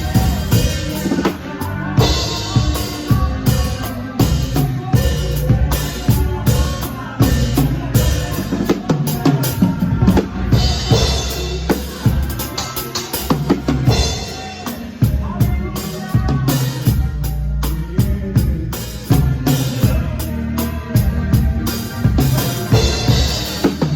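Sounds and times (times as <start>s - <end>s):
bass line: 0.0s - 23.9s
drum kit beat: 0.0s - 23.9s.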